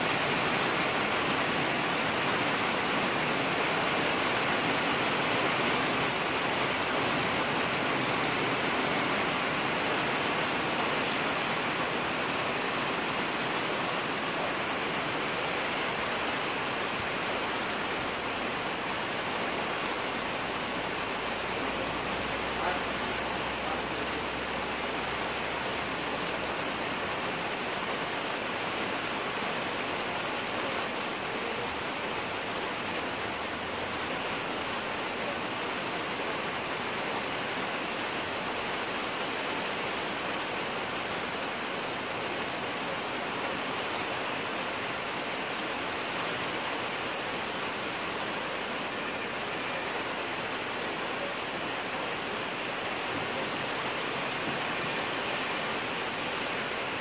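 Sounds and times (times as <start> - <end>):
steady rain on foliage: 0.0 - 57.0.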